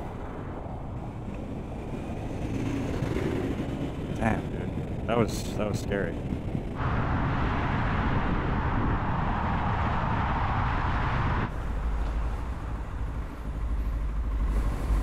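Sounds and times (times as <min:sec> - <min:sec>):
motorcycle engine and road rumble: 0:00.0 - 0:15.0
wind rush on microphone: 0:00.0 - 0:15.0.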